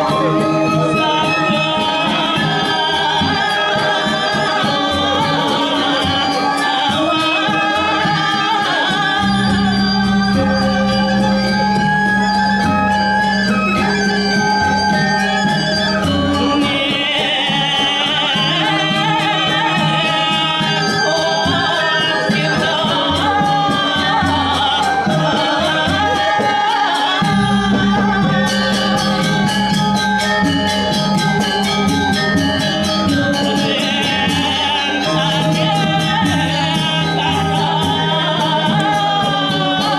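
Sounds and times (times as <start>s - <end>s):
gamelan ensemble playing: 0.0s - 39.9s
low gamelan tone: 0.0s - 39.9s.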